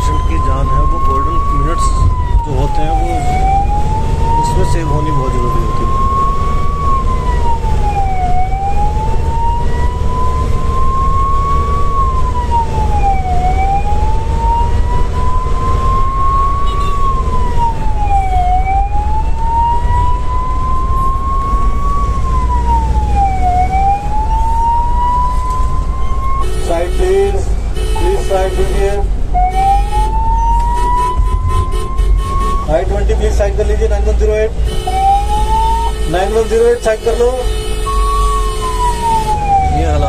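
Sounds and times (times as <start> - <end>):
ambulance siren wailing: 0.0 - 40.0
engine and road drone: 0.0 - 40.0.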